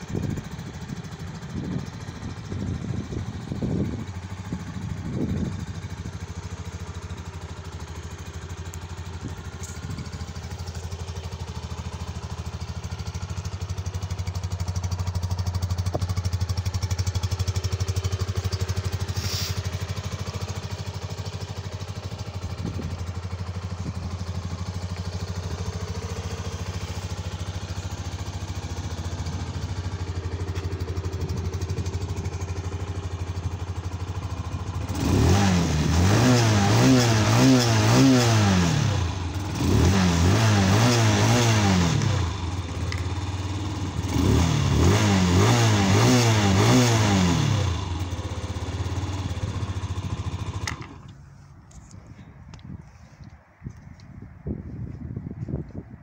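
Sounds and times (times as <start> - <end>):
motorcycle engine revving: 0.0 - 51.2
motorcycle engine idling: 0.0 - 56.0.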